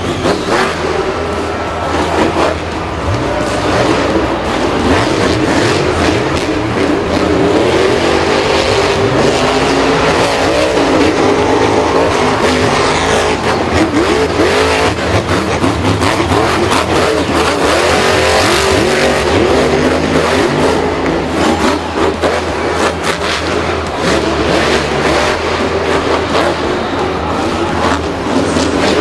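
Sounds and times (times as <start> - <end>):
vehicle engines revving loudly: 0.0 - 29.0.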